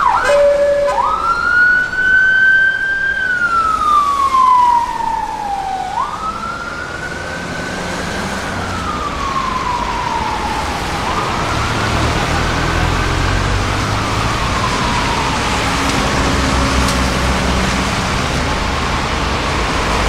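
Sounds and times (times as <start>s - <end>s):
police siren wailing: 0.0s - 18.7s
traffic noise: 0.0s - 20.0s.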